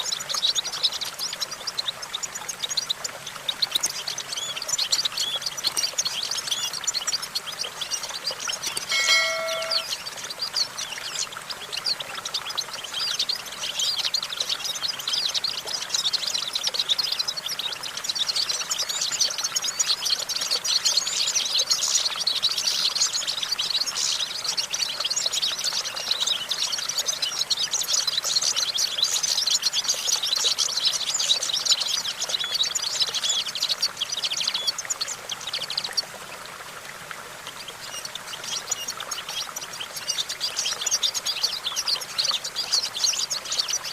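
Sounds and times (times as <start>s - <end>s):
bird twittering and trilling: 0.0s - 36.1s, 37.5s - 43.9s.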